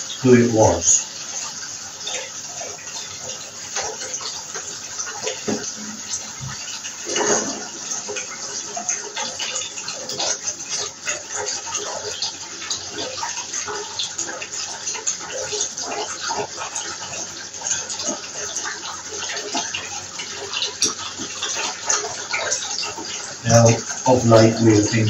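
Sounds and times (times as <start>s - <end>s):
tap running water into bath: 0.0s - 25.0s.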